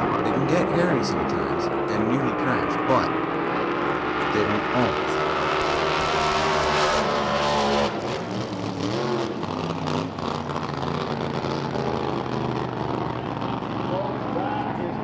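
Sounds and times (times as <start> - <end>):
racing boat engine running: 0.0 - 15.0.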